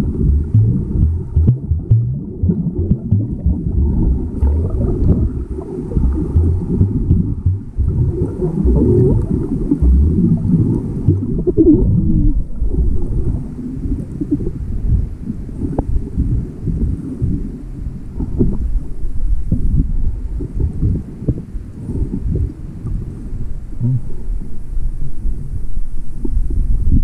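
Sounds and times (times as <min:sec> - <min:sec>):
muffled underwater water churning: 0:00.0 - 0:27.0.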